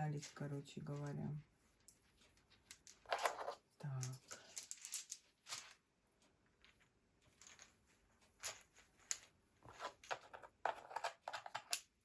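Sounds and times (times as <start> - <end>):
soft rustling: 0.0 - 10.1.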